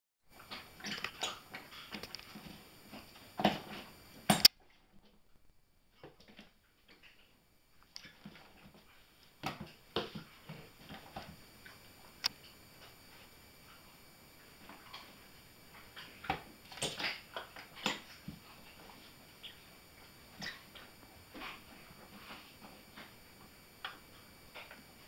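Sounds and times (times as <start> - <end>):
puppy noises and scuffling: 0.4 - 5.3, 5.9 - 25.0.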